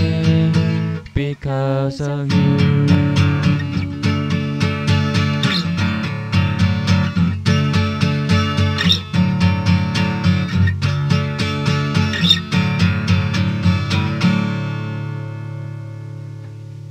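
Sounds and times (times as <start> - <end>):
guitar strumming chords: 0.0 - 16.9.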